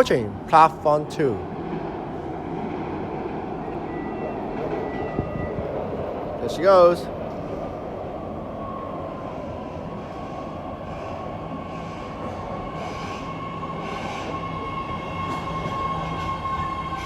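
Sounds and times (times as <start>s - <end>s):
train high whine: 0.0s - 17.0s
train wheels rumbling on rail: 0.0s - 17.0s.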